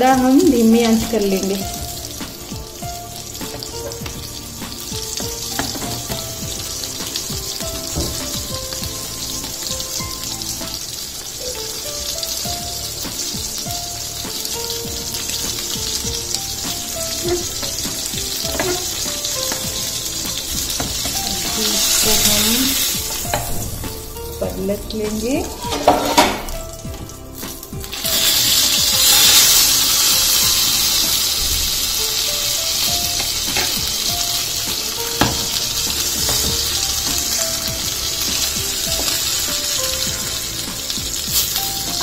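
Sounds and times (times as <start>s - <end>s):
fish sizzling in hot oil: 0.0s - 42.0s.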